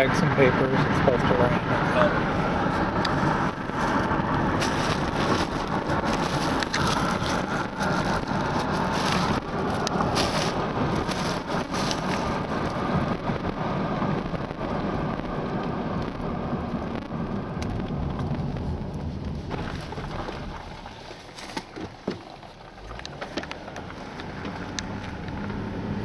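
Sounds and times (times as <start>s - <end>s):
car driving: 0.0s - 26.0s
sharp clicks and crackles: 2.7s - 25.6s.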